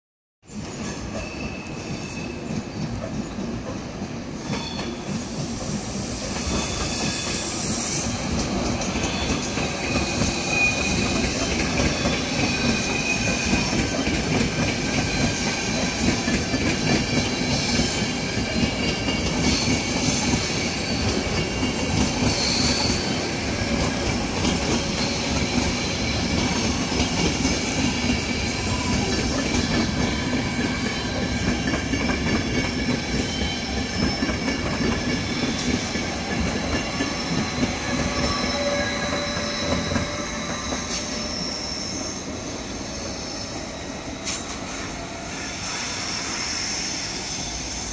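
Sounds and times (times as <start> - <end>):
high wheel squeal: 0.5 - 3.8, 4.4 - 47.9
train wheels rumbling on rail: 0.5 - 47.9.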